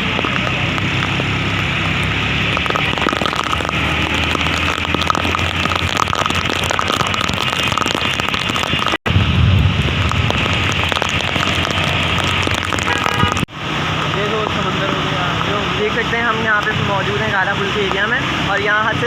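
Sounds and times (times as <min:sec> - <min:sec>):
rain drops striking camera: 0:00.0 - 0:18.1
low traffic rumble: 0:00.0 - 0:19.0.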